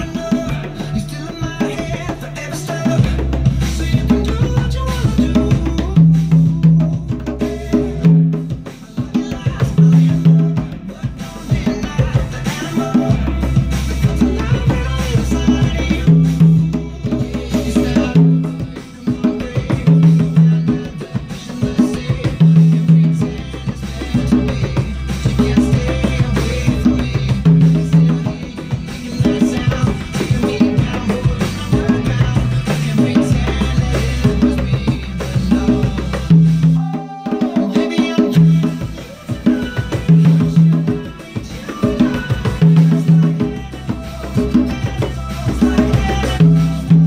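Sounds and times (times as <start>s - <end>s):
conga drums played by hand: 0.0s - 47.0s
pop song from tv speaker: 0.0s - 47.0s.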